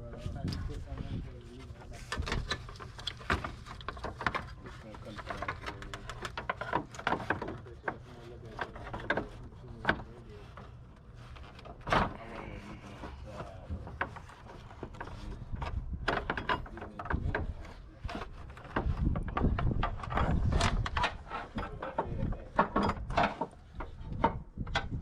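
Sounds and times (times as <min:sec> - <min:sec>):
metal and plastic parts handled: 0:00.4 - 0:25.0.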